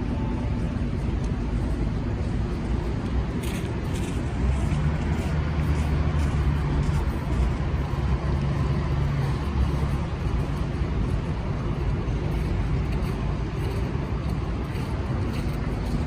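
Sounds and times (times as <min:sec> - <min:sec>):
low engine hum: 0:00.0 - 0:16.0
traffic engines rumbling: 0:00.0 - 0:16.0.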